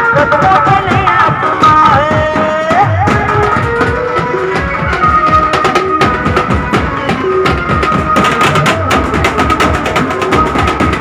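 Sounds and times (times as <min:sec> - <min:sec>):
banjo band playing: 0:00.0 - 0:11.0
steady drumming: 0:00.0 - 0:11.0.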